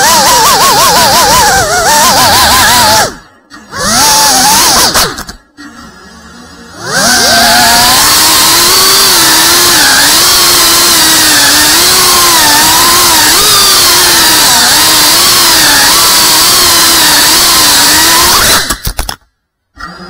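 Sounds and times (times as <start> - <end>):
drone propellers buzzing: 0.0 - 18.9.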